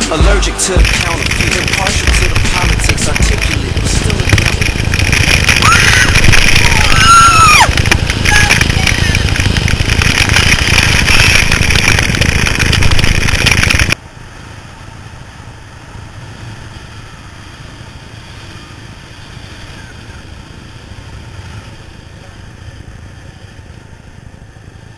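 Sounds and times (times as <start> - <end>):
skateboard wheels rolling on asphalt: 0.0 - 24.9
wind rush on microphone: 0.0 - 24.9.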